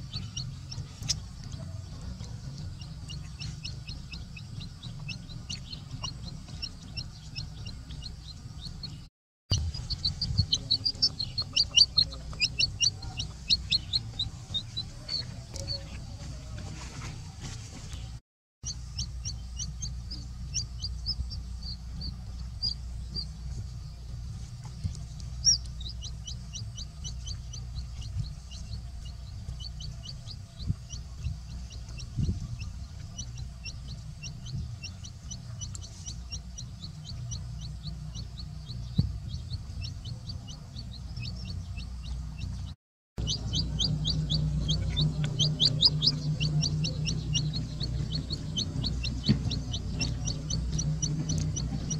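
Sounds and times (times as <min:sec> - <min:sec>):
chick peeping: 0:00.0 - 0:51.9.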